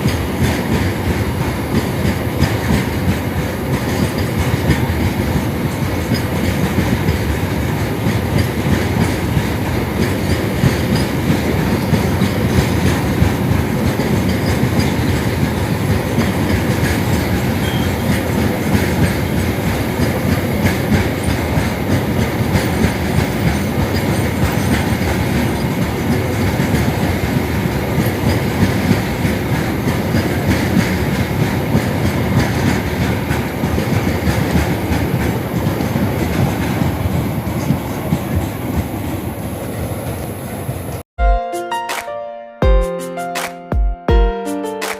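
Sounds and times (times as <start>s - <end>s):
freight train wheels rumbling: 0.0s - 41.1s.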